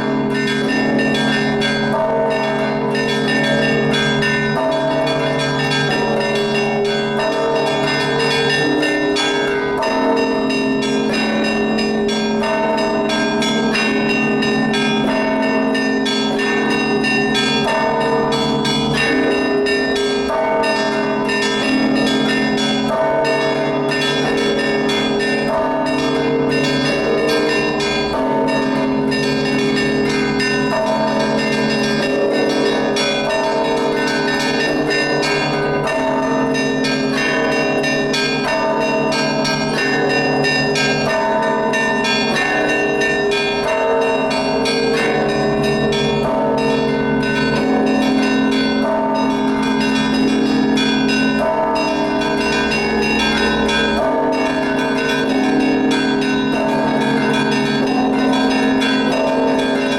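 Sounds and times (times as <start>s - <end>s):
large bells ringing: 0.0s - 59.9s
small bells striking quickly: 0.0s - 59.9s.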